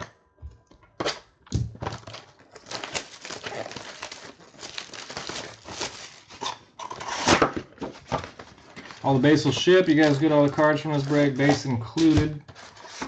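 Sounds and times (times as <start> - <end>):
shrink wrap tearing and crinkling: 1.0 - 7.5, 8.2 - 13.0.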